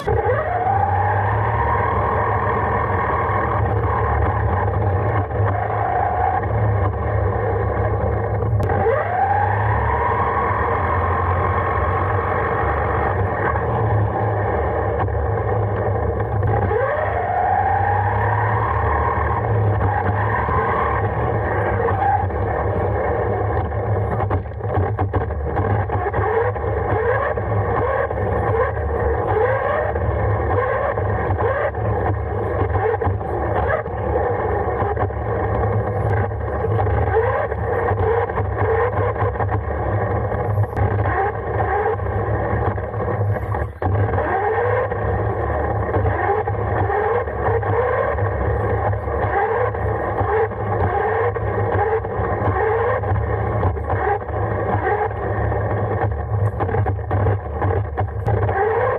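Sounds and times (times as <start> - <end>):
radio-controlled car motor whining: 0.0 - 58.9.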